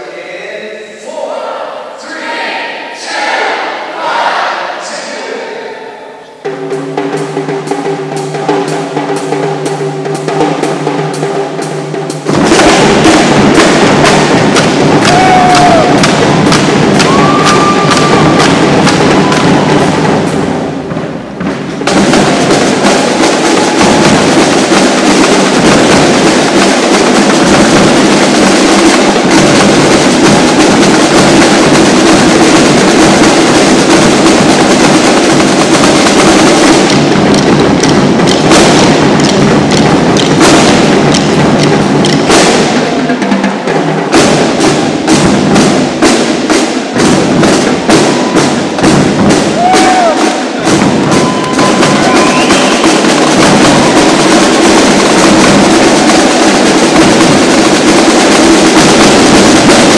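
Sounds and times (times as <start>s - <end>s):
marching drumline snare and bass drums: 3.1s - 4.6s, 6.4s - 59.9s.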